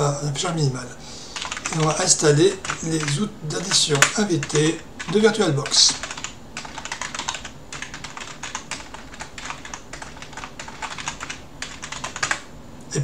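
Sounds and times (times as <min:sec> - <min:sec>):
typing on computer keyboard: 0:01.4 - 0:02.0, 0:02.6 - 0:12.5.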